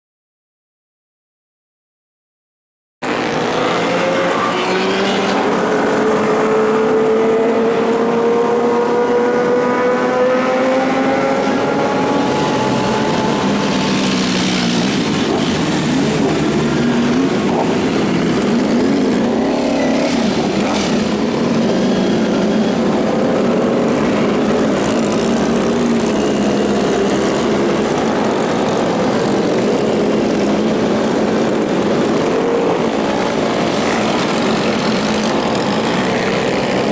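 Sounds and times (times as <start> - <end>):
motorcycle engine accelerating: 3.0 - 36.9
motorcycle engines revving and passing: 3.0 - 36.9.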